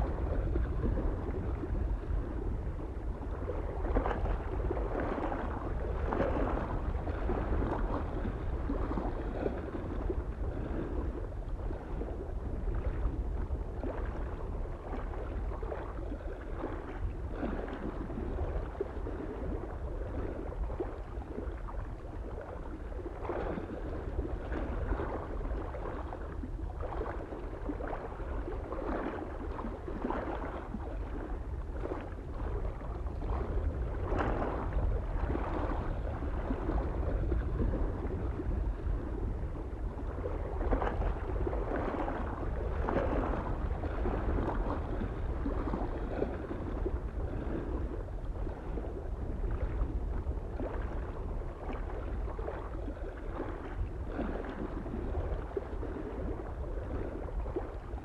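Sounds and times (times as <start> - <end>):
lake waves lapping on shore: 0.0 - 58.0
soft wind rumble: 0.0 - 58.0.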